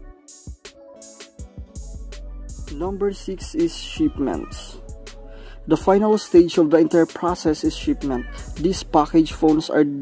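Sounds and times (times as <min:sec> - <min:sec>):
music with drum beat: 0:00.2 - 0:05.2, 0:05.8 - 0:09.6.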